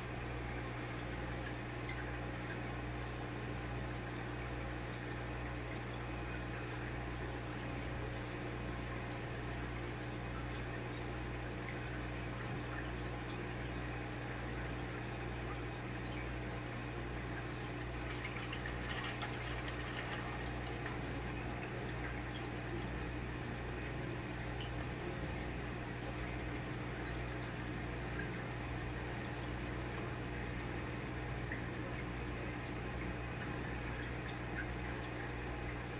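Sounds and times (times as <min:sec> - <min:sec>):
aquarium air bubbles burbling: 0:00.0 - 0:35.9.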